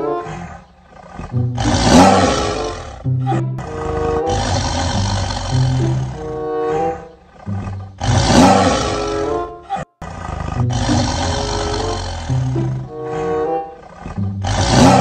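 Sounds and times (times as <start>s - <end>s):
tiger roaring: 0.0s - 15.0s
background music: 1.3s - 9.7s, 10.5s - 15.0s.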